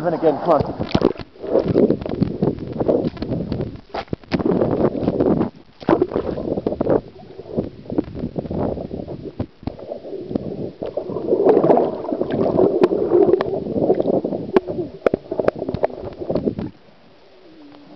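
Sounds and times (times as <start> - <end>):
underwater gurgling and sloshing: 0.0 - 17.9.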